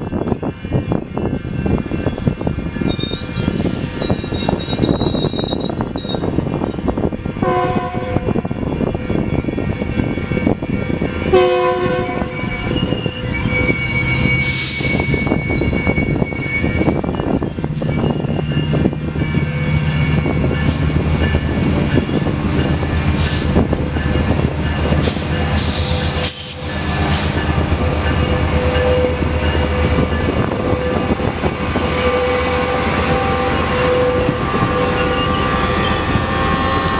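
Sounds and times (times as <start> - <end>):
diesel locomotive engine hum: 0.0 - 36.9
rail and wheel noise: 0.0 - 36.9.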